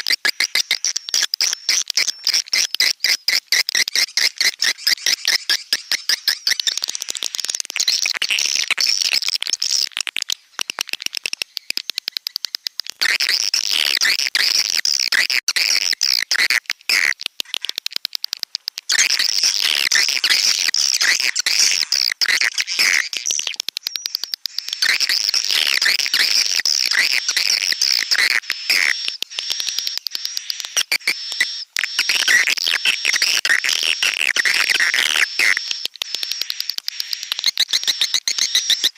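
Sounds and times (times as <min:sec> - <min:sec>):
high-pitched bird twittering: 0:00.0 - 0:15.1, 0:18.3 - 0:38.9
rapid bird clicking: 0:00.0 - 0:38.9.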